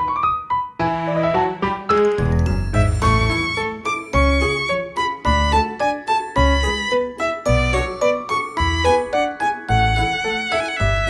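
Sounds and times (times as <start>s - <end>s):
upbeat instrumental music: 1.0s - 11.0s.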